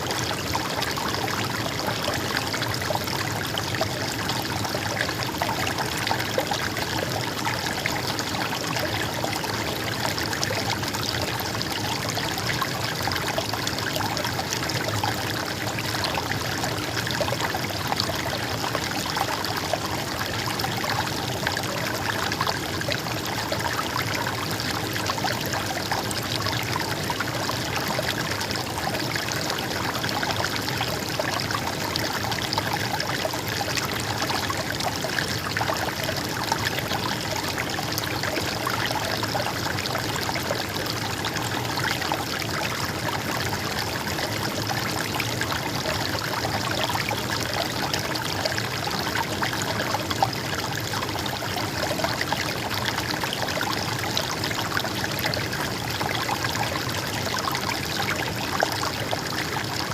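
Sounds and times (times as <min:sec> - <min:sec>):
stream babbling and trickling: 0:00.0 - 0:59.9.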